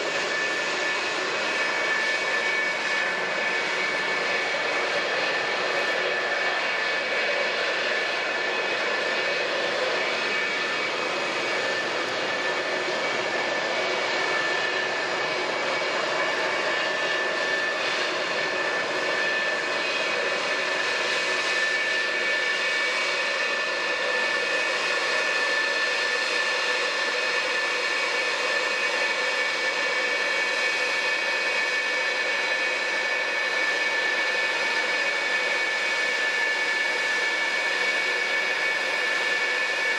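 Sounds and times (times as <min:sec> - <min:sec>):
jet engines roaring and whining: 0:00.0 - 0:39.9.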